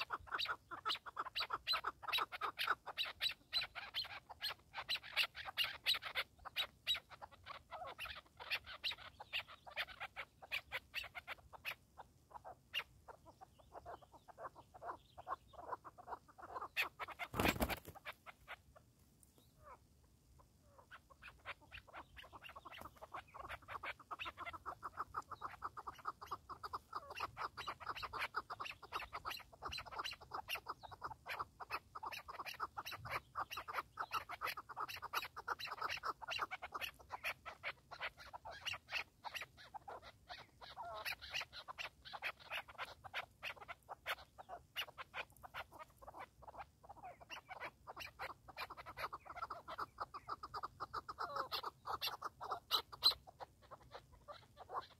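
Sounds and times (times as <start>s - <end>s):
partridge clucking calls: 0.0s - 54.9s.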